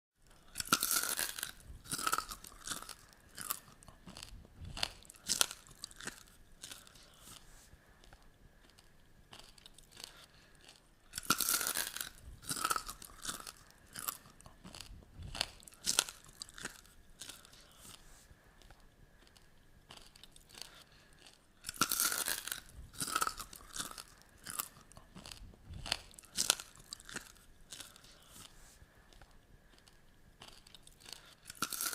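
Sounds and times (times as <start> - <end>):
pork rinds crunching: 0.3 - 7.4, 8.0 - 18.0, 19.2 - 28.5, 29.1 - 31.9.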